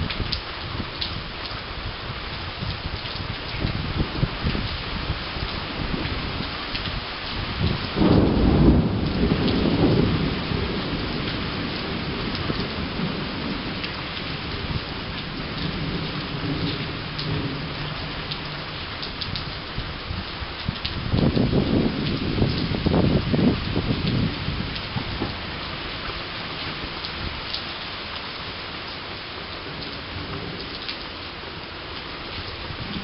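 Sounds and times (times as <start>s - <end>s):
steady rain falling: 0.0s - 33.0s
thunder rumbling: 2.6s - 27.5s, 29.6s - 33.0s.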